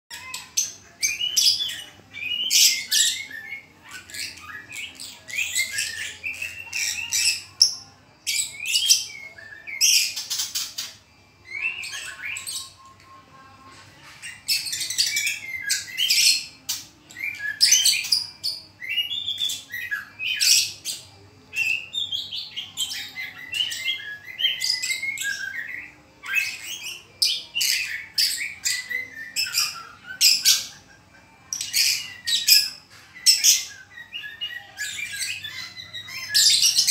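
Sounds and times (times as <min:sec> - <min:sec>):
songbird singing: 0:00.1 - 0:36.9.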